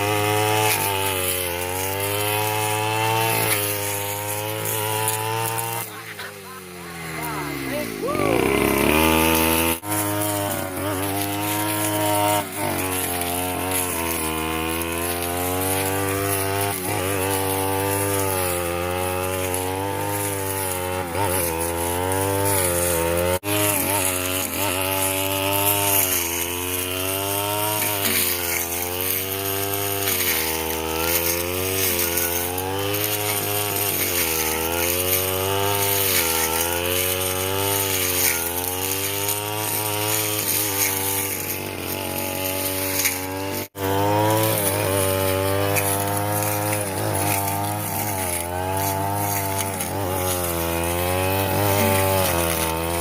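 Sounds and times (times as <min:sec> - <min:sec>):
brush cutter engine cutting grass: 0:00.0 - 0:53.0.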